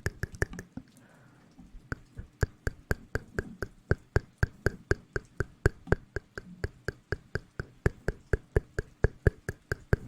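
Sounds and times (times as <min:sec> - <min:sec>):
sharp rhythmic clicks: 0:00.0 - 0:00.8, 0:01.7 - 0:10.0.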